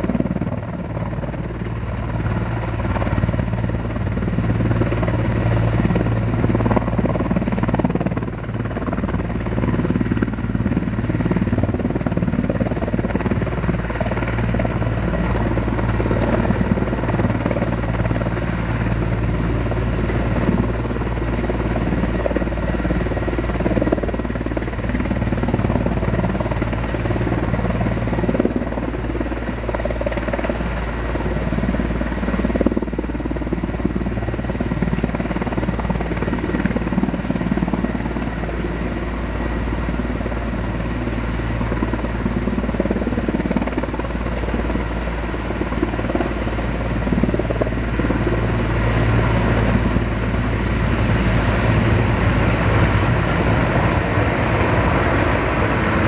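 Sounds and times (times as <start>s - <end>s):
helicopter hovering: 0.0s - 56.0s.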